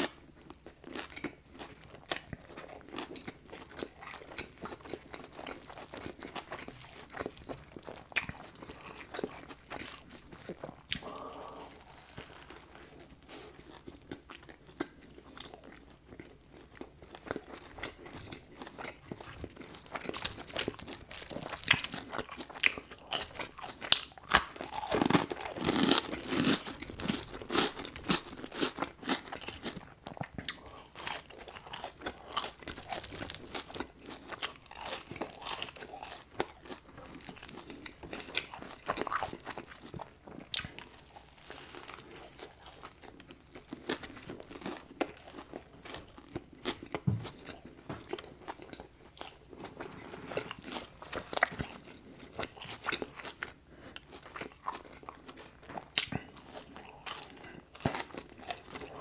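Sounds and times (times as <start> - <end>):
chewing crispy fried food: 0.0 - 59.0.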